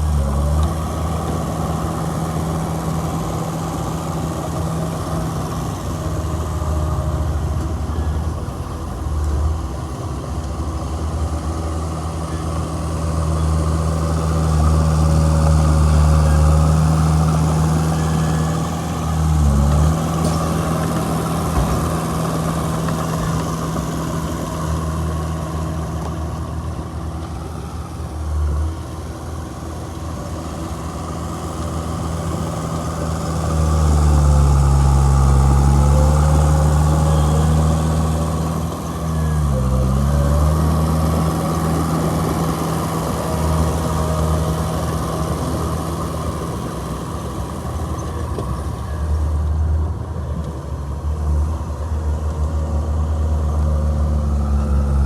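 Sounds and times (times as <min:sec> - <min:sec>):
heavy diesel engine working: 0:00.0 - 0:55.0.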